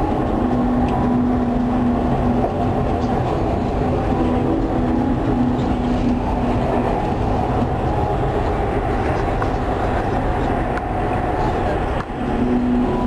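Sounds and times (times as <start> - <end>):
faint hum: 0.0 - 13.0
train wheels rumbling: 0.0 - 13.0.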